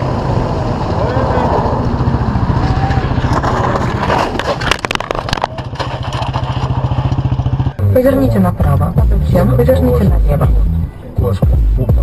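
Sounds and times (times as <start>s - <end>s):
vehicle engine pulsing: 0.0s - 12.0s.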